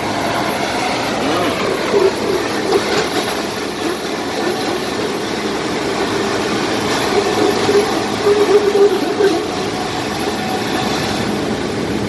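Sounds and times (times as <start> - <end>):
wavering squeal: 0.0 - 11.7
bulldozer diesel engines: 0.0 - 12.0.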